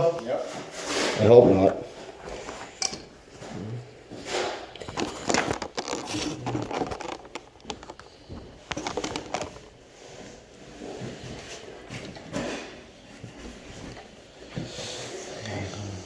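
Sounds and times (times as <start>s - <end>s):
rustling and scraping: 0.2s - 15.4s.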